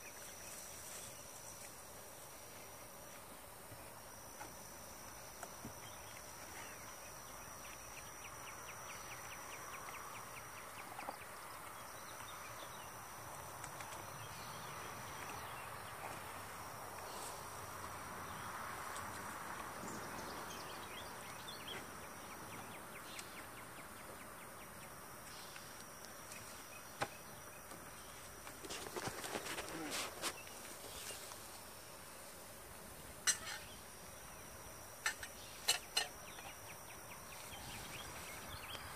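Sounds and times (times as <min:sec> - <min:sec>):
high insect trill: 0:00.0 - 0:38.9
honeybees humming: 0:00.0 - 0:38.9.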